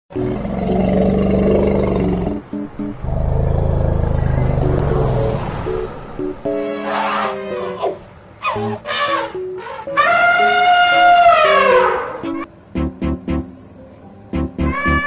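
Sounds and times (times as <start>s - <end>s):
background music with melodic notes: 0.1s - 15.0s.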